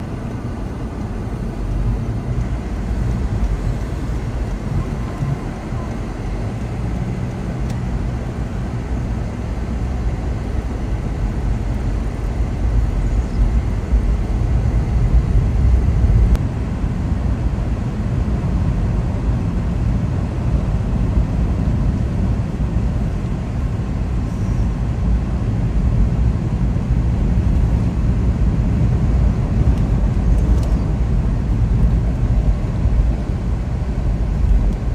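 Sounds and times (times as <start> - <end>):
car road and engine noise: 0.0 - 34.9.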